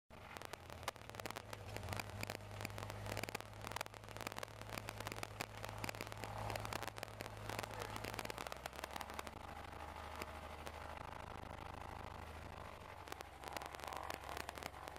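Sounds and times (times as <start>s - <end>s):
crackling clicks: 0.1s - 14.9s
aircraft engine drone in cabin: 0.2s - 14.9s.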